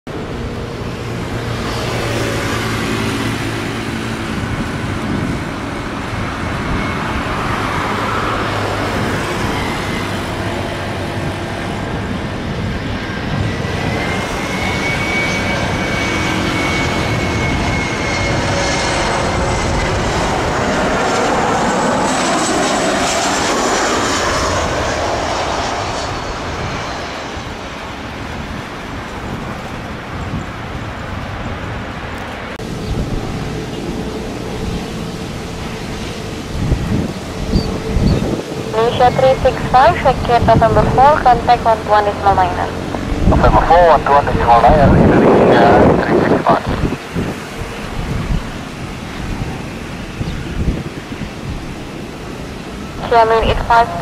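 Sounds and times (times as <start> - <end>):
jet engines roaring with whine: 0.1 - 54.0.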